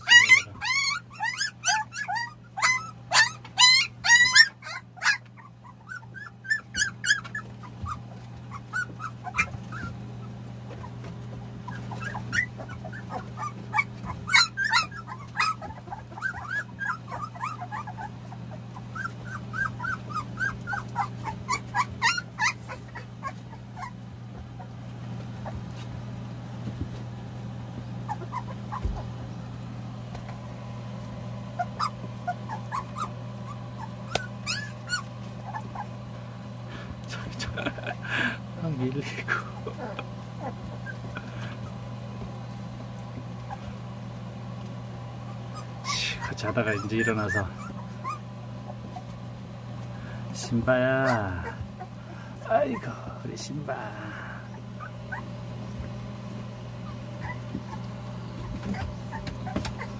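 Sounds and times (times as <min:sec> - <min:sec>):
puppies whimpering and squealing: 0:00.0 - 0:59.9
steady low hum: 0:00.0 - 0:59.9.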